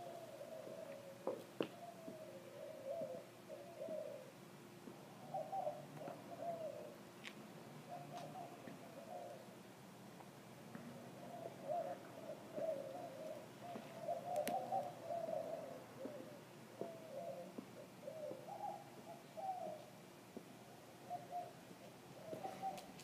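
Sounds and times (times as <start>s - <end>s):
doves cooing: 0.0s - 7.1s, 7.8s - 9.7s, 10.8s - 23.0s.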